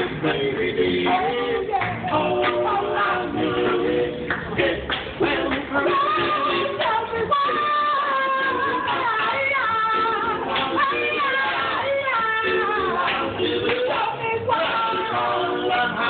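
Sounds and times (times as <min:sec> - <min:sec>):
double bass: 0:00.0 - 0:16.0
men singing in harmony: 0:00.0 - 0:16.0.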